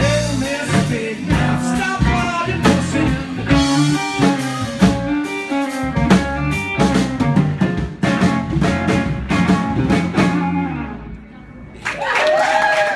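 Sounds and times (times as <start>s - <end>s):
country band playing: 0.0s - 11.3s.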